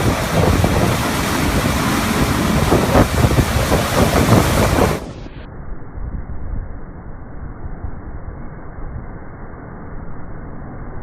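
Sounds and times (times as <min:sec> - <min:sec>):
wind noise on microphone: 0:00.0 - 0:09.3.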